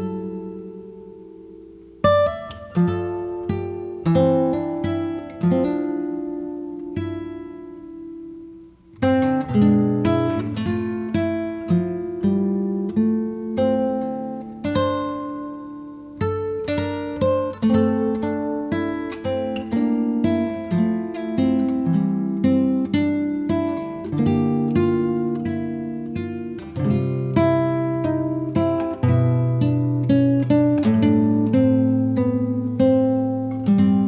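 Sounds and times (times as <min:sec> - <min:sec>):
plucked acoustic guitar music: 0:00.0 - 0:34.0.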